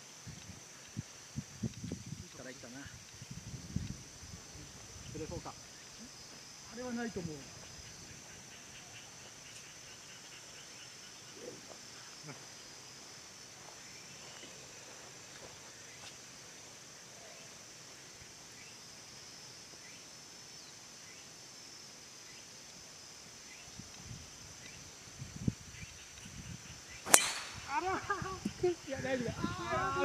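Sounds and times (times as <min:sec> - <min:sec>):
insect chorus trilling: 0:00.0 - 0:30.0.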